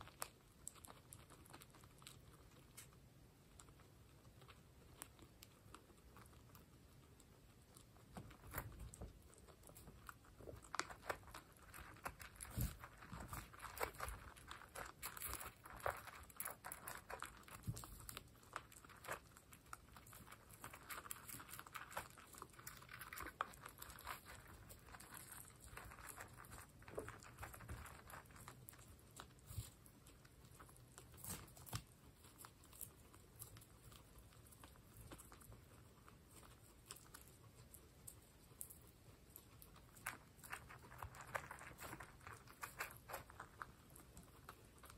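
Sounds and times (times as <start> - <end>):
guinea pigs crunching pellets: 0.0 - 44.9.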